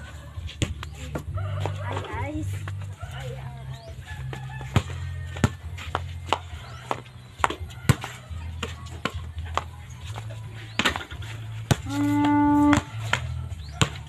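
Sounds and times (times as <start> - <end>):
background music with deep bass: 0.0 - 14.0.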